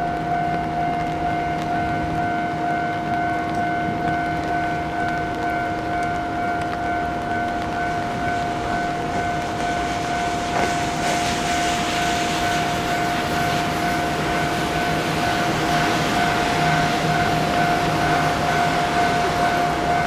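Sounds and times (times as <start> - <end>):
diesel railcar engine and wheels: 0.0 - 20.0
railway warning alarm: 0.0 - 20.0.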